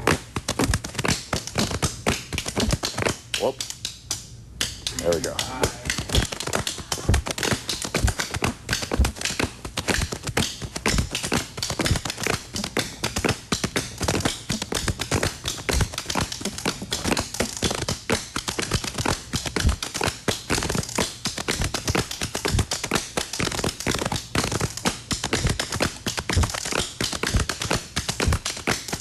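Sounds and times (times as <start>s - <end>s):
hands slapping body rhythm: 0.0s - 29.0s.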